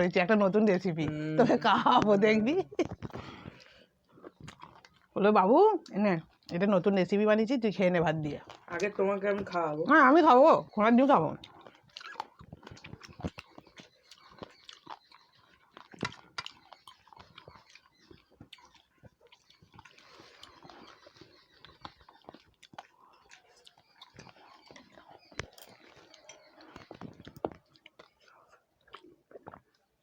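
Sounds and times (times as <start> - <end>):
people chewing food: 0.0 - 30.0.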